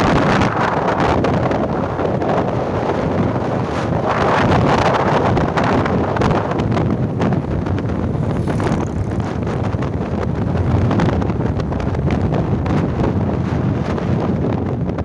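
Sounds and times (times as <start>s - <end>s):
wind buffeting microphone: 0.0s - 15.0s
motorcycle running: 0.1s - 15.0s.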